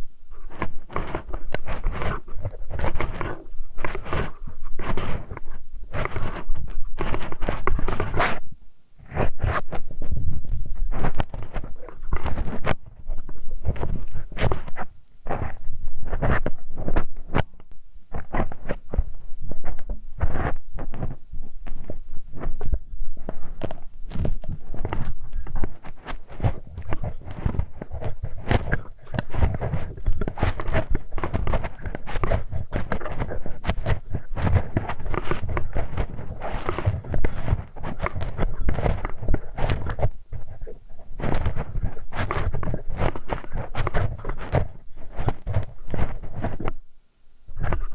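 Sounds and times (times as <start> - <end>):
scraping and rubbing: 0.0 - 46.8, 47.5 - 47.9.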